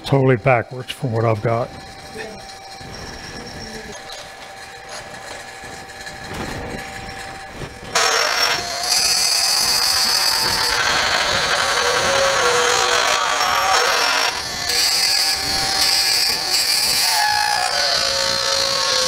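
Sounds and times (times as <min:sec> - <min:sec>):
wood lathe drilling into wood: 0:01.0 - 0:19.0.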